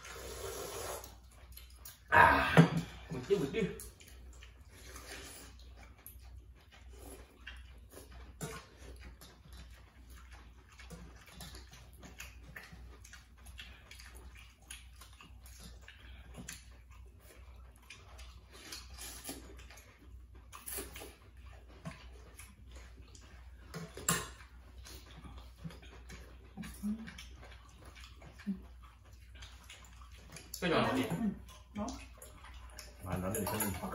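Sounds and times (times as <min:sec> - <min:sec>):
slurping and chewing: 0:00.0 - 0:33.9.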